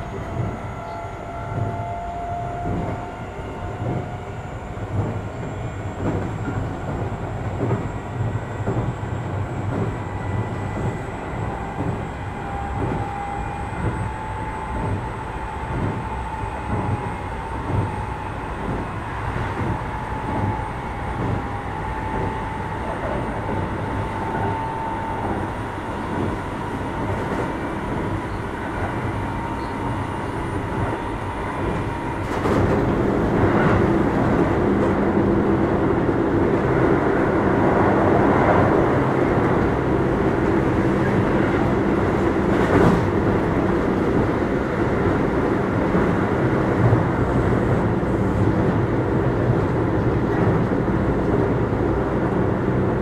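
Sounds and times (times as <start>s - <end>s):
train low rumble: 0.0s - 53.0s.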